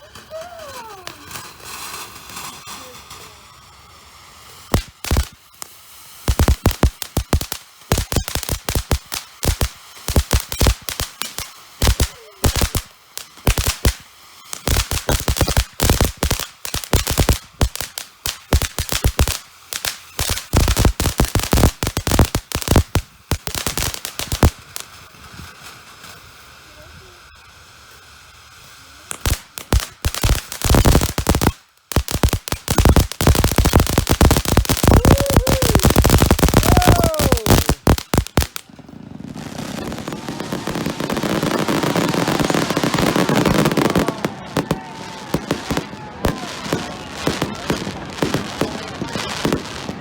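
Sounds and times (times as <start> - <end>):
fireworks bangs: 0.0 - 3.7, 4.5 - 26.3, 28.6 - 50.0
fireworks crackling fizz: 0.0 - 50.0.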